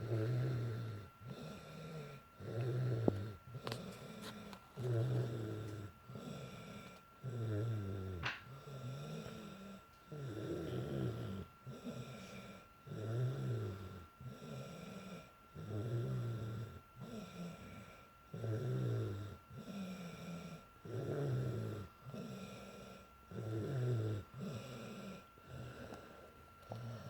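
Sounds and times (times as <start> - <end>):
girl snoring: 0.0 - 27.0
quiet breathing: 0.0 - 27.0.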